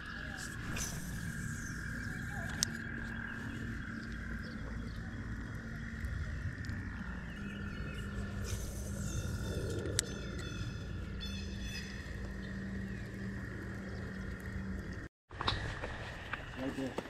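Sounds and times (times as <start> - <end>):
frogs trilling: 0.0 - 15.1.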